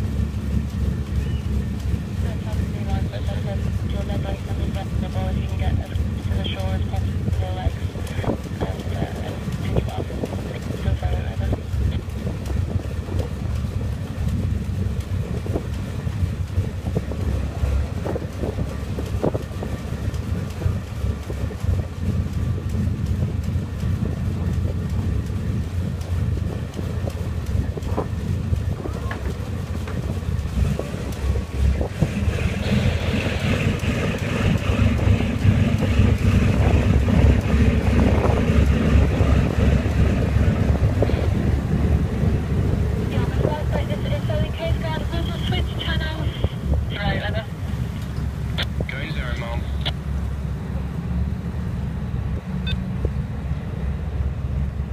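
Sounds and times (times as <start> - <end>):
boat engine rumble: 0.0 - 54.9
water noise: 0.0 - 54.9
wind buffeting microphone: 0.0 - 54.9.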